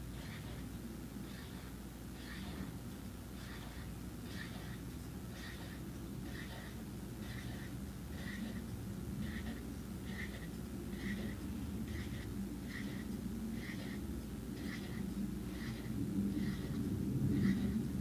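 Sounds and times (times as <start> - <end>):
low background noise: 0.0 - 18.0
marker squeaking on paper: 0.2 - 2.8, 3.4 - 14.0, 14.6 - 16.8, 17.4 - 17.8.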